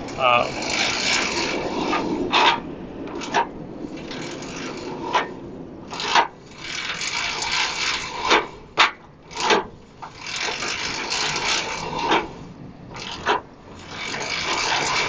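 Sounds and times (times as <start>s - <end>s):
scraping on bicycle metal: 0.0s - 15.0s.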